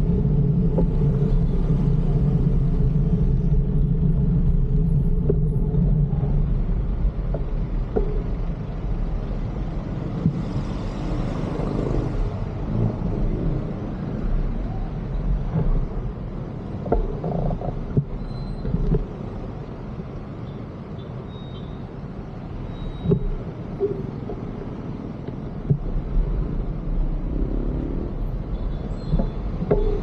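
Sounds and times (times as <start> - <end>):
traffic rumble and road noise: 0.0 - 30.0.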